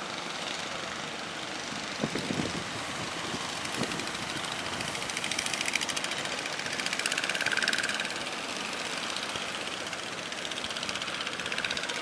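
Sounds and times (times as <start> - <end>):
boat engine pulsing: 0.8 - 12.0.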